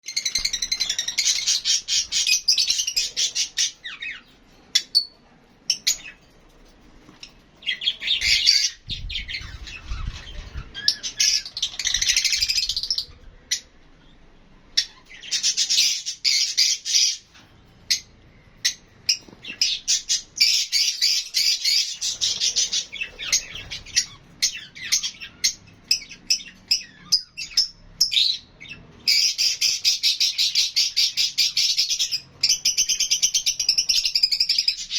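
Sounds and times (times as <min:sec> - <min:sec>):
birds chirping and squawking: 0:00.0 - 0:34.9.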